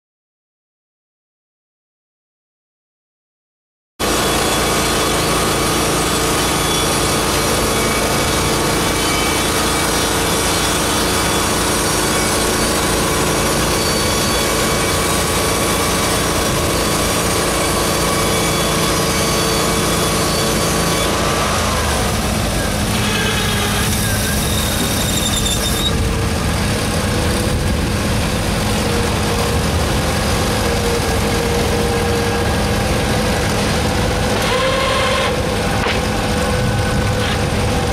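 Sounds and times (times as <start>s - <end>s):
band sawmill running: 4.0s - 37.9s.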